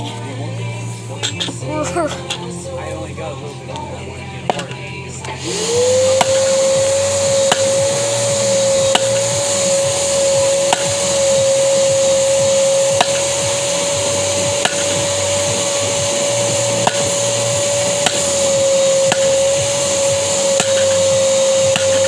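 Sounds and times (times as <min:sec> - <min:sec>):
vacuum cleaner whining: 0:00.0 - 0:03.2, 0:03.9 - 0:22.0.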